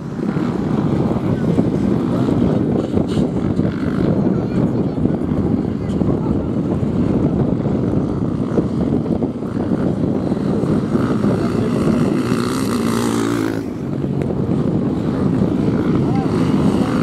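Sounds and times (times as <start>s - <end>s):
motocross engines revving: 0.0s - 17.0s.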